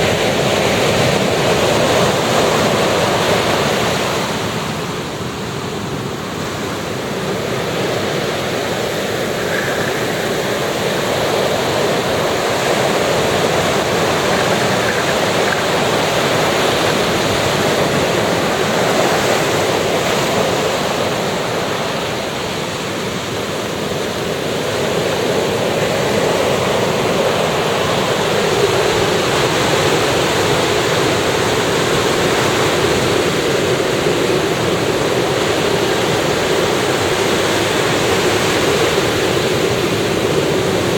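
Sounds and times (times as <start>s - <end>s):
ocean waves on beach: 0.0s - 40.9s.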